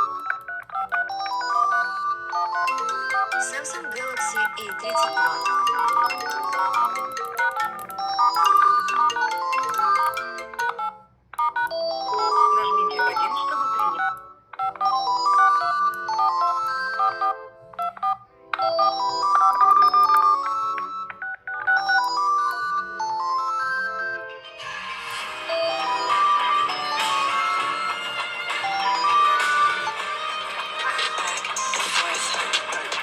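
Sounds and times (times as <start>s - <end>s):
phone ringtone melody: 0.0s - 24.4s, 25.4s - 30.0s.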